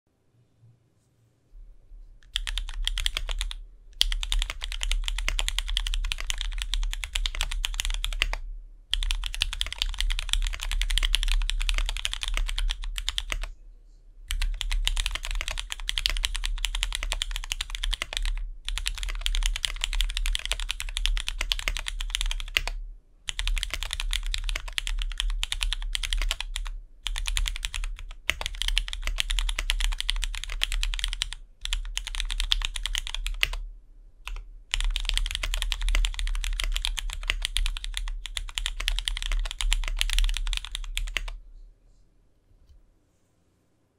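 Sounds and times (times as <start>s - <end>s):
fast typing on mechanical keyboard: 2.3s - 13.5s, 14.3s - 33.6s, 34.3s - 41.4s.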